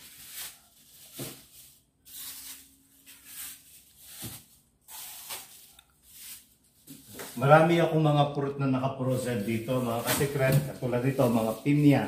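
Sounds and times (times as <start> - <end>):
plastic bags rustling: 0.0 - 8.1, 9.0 - 12.0.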